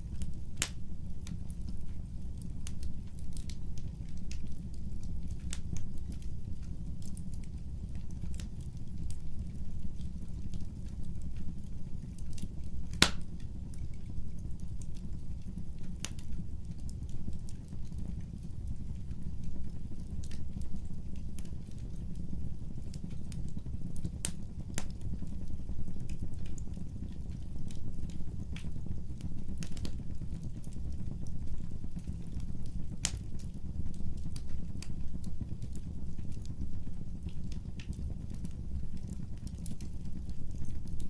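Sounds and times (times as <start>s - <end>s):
wood fire burning: 0.0s - 41.0s
logs crackling and popping: 0.1s - 41.0s.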